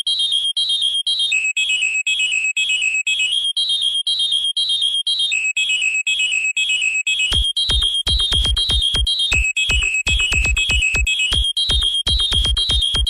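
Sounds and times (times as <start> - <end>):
pulsing fire alarm tone: 0.0 - 13.0.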